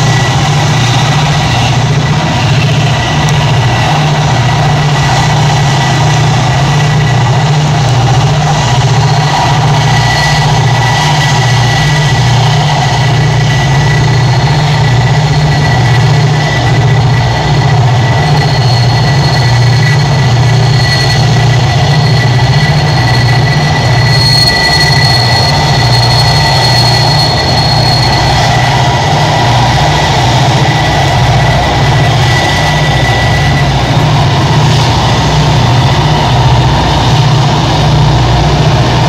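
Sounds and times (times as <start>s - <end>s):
diesel locomotive engine drone: 0.0s - 39.0s
high wheel squeal: 0.0s - 39.0s.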